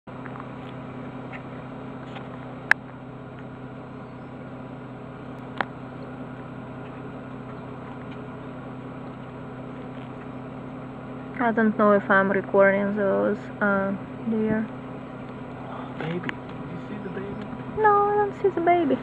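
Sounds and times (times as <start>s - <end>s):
car engine low hum: 0.0s - 19.0s.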